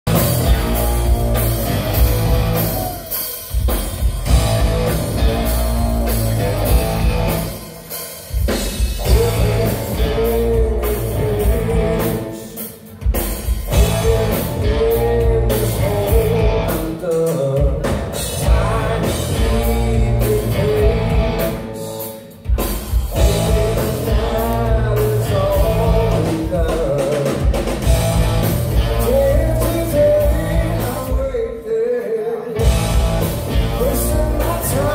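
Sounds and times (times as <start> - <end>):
bass guitar: 0.0 - 7.7, 8.5 - 12.5, 13.5 - 31.4, 32.6 - 34.9
drum kit: 0.0 - 34.9
electric guitar: 0.0 - 34.9
man singing: 4.3 - 7.8, 8.9 - 34.9.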